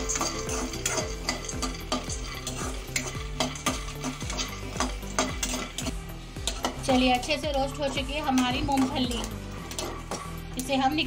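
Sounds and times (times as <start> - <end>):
metal spoon scraping pan: 0.0 - 11.0
nuts rattling in metal pan: 0.0 - 11.0.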